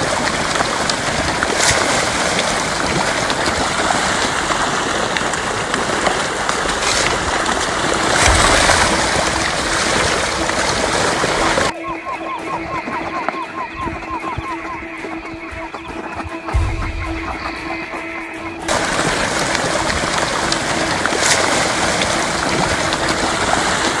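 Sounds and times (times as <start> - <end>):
rushing splashing water: 0.0 - 11.8, 12.4 - 24.0
sharp splashes: 0.0 - 11.8, 16.0 - 24.0.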